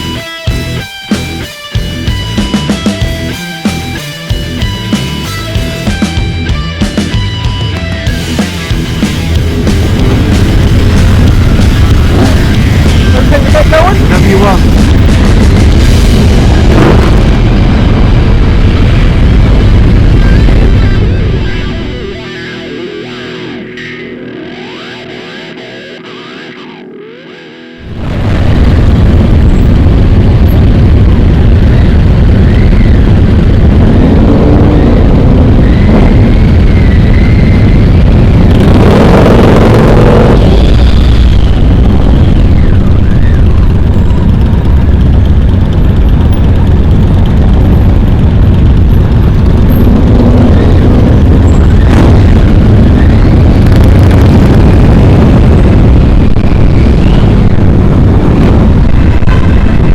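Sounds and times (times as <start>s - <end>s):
motorcycle engines running: 0.0s - 22.8s, 27.8s - 59.9s.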